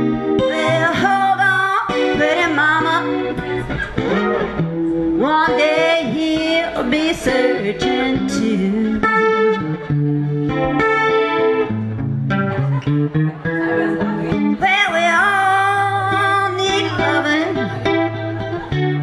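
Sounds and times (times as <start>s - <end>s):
blues guitar playing: 0.0s - 19.0s
high bending lead guitar line: 0.0s - 19.0s.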